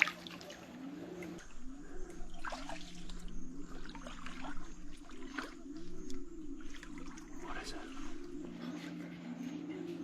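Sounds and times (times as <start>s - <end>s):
water trickling and splashing: 0.0s - 8.6s
faint low rising tone: 1.4s - 10.0s.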